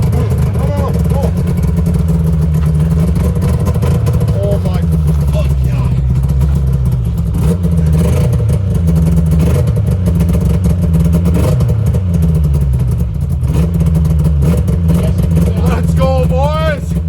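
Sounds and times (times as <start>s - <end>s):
snowmobile two-stroke engine running: 0.0s - 17.0s.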